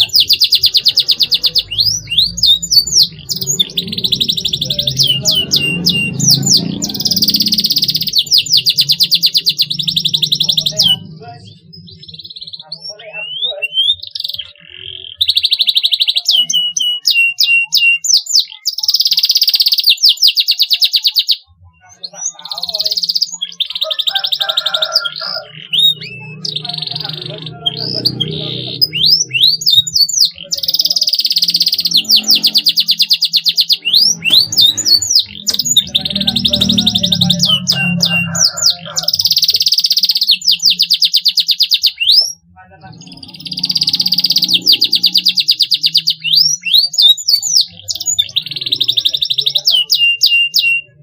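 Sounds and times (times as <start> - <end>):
canary chirping and trilling: 0.0 - 51.0.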